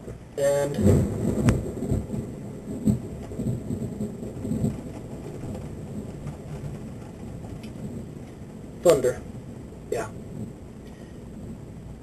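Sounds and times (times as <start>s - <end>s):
pouring rain hiss: 0.0s - 12.0s
thunder rumbling: 0.0s - 12.0s.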